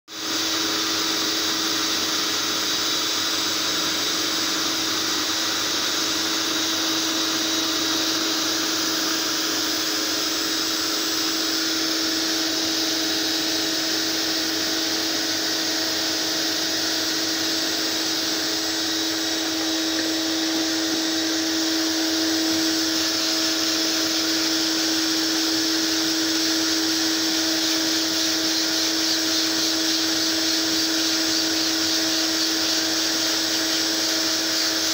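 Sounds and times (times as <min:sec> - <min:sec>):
vacuum motor hum with hiss: 0:00.1 - 0:34.9.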